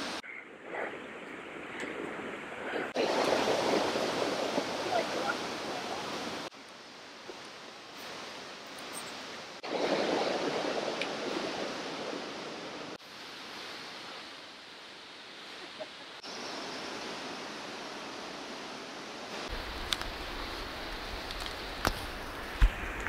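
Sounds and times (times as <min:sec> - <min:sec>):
creek rushing: 0:01.8 - 0:23.0.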